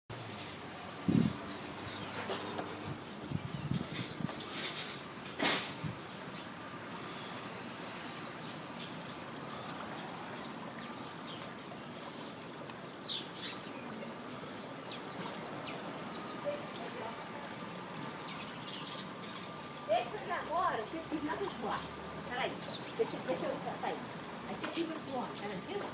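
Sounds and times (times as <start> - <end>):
small birds chirping: 0.2 - 25.9.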